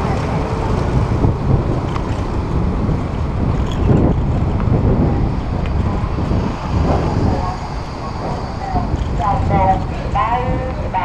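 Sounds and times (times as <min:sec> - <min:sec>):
street traffic noise: 0:00.0 - 0:11.0
wind rushing over microphone: 0:00.0 - 0:11.0.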